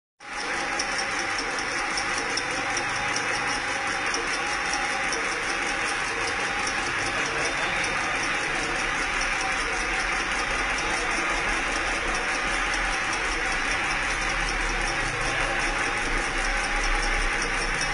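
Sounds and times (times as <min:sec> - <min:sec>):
machine mechanical clatter: 0:00.2 - 0:17.9.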